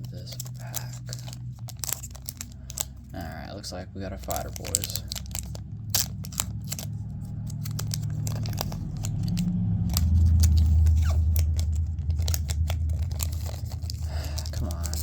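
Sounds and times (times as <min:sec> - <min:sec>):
foil wrapper crackling: 0:00.0 - 0:15.0
low rumble: 0:00.0 - 0:15.0.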